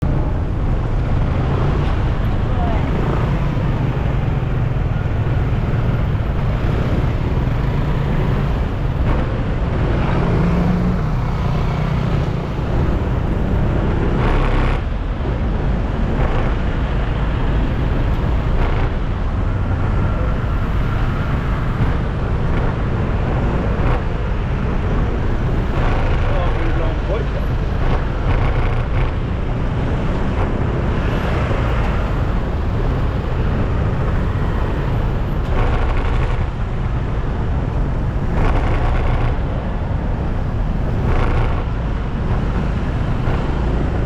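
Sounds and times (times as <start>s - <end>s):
traffic engines rumbling: 0.0s - 44.0s.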